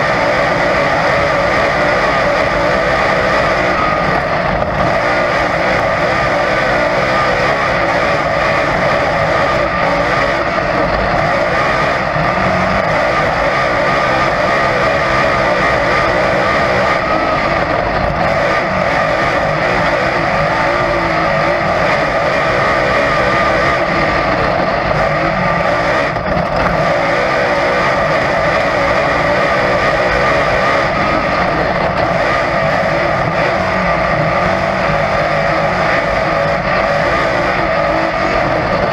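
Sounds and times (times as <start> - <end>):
race car engine droning: 0.0 - 38.9.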